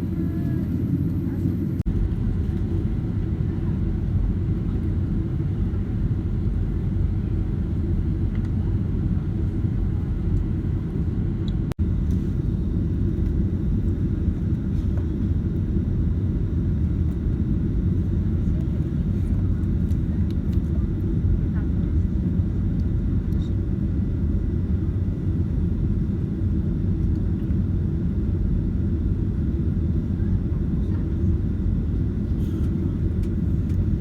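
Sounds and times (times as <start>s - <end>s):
airplane cabin rumble: 0.0s - 34.0s.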